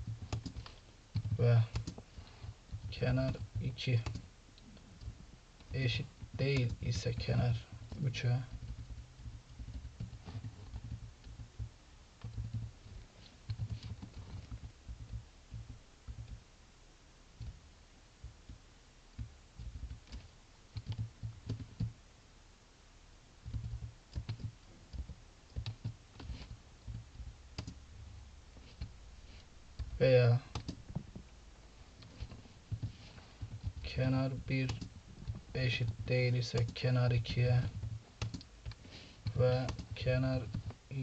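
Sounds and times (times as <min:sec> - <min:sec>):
typing on computer keyboard: 0:00.0 - 0:04.3, 0:05.0 - 0:16.4, 0:19.2 - 0:22.0, 0:23.4 - 0:27.8, 0:29.8 - 0:31.1, 0:32.0 - 0:40.8.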